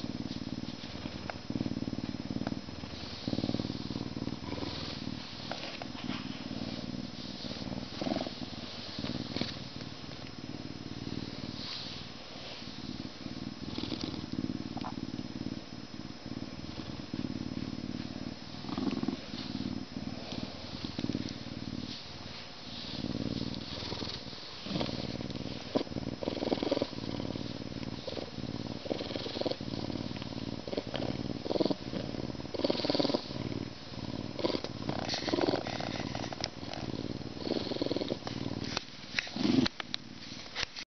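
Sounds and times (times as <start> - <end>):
lynx purring: 0.0 - 40.8.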